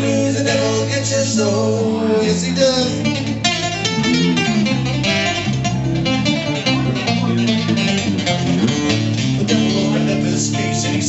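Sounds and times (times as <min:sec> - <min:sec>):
acoustic guitar picking: 0:00.0 - 0:11.0.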